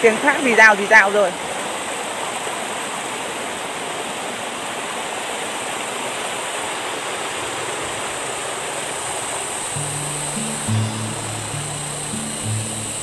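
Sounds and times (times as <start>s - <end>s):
fast water rushing down channel: 0.0s - 13.0s.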